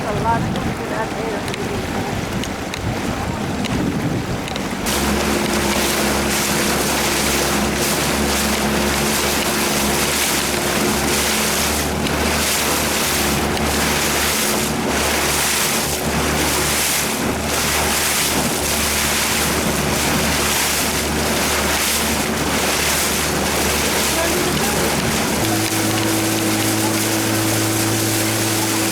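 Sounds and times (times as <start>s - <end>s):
outboard motor running: 0.0s - 28.9s
wind on microphone: 0.0s - 28.9s.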